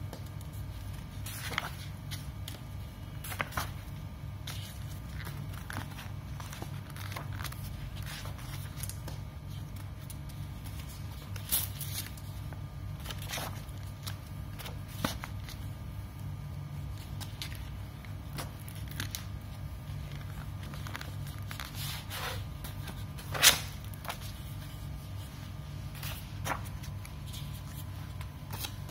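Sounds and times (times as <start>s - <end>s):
steady low hum: 0.0s - 28.9s
pages of a sample book turning: 0.1s - 15.8s, 16.8s - 28.9s.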